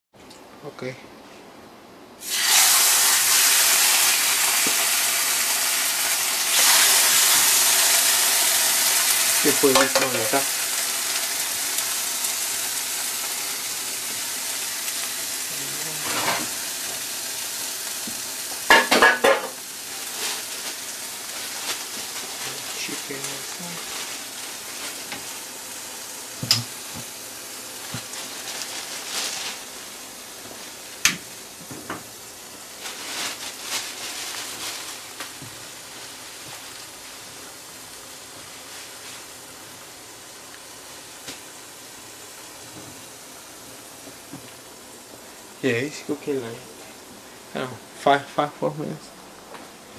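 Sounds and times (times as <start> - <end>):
meat sizzling in a skillet: 2.2 - 47.6.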